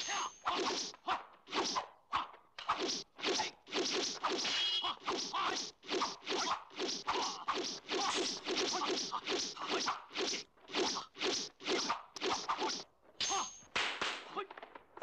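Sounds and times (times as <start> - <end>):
sword swishes: 0.0 - 13.6.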